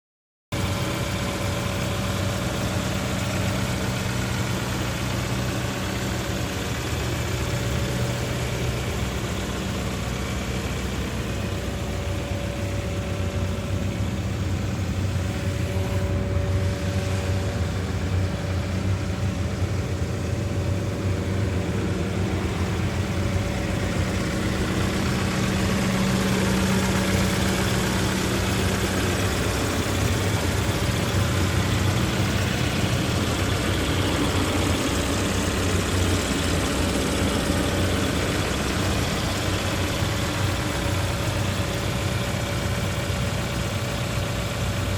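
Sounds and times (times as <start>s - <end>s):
diesel loader engine running: 0.5s - 44.9s.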